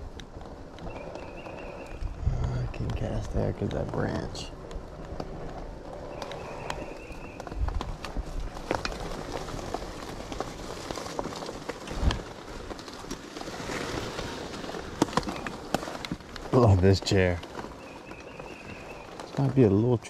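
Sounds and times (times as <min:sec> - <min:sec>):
twigs crackling and snapping: 0:00.0 - 0:20.0.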